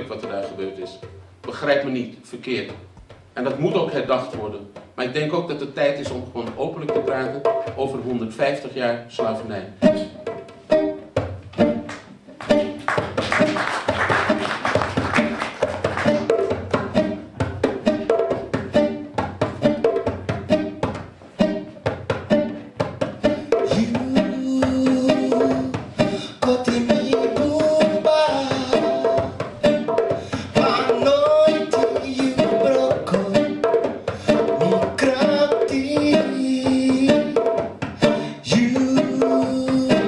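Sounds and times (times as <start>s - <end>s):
hand drums beating: 0.0s - 1.9s, 2.6s - 8.4s, 9.2s - 40.0s
acoustic guitar: 2.5s - 40.0s.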